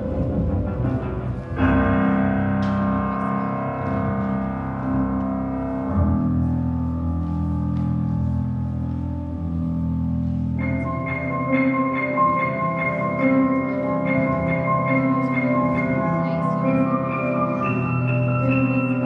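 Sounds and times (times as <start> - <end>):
held low chords: 0.0 - 19.0.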